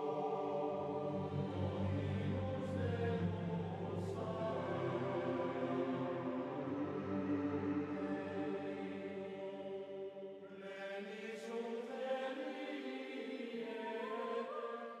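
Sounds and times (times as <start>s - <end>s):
chant-like vocal music: 0.0s - 15.0s.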